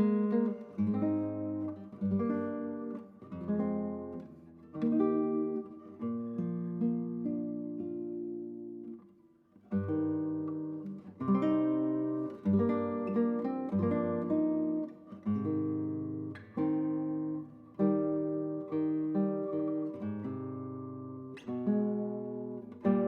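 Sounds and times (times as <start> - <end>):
acoustic guitar music: 0.0 - 23.0.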